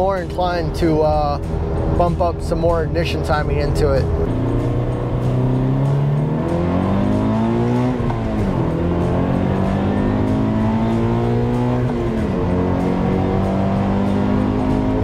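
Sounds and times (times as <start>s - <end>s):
car engine accelerating: 0.2s - 15.0s.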